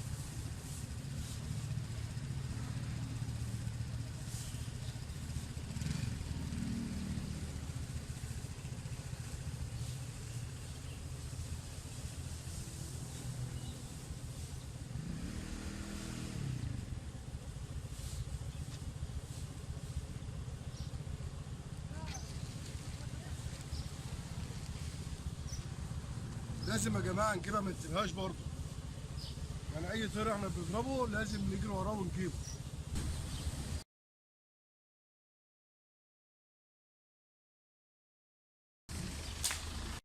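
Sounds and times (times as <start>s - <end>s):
small engine running: 0.0s - 33.8s, 38.9s - 40.0s.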